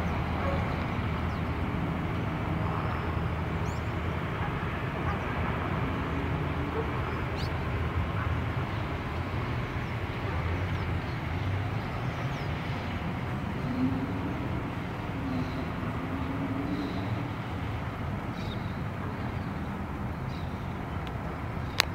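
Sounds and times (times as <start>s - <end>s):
distant city traffic rumble: 0.0s - 21.9s
faint engine drone: 0.0s - 21.9s.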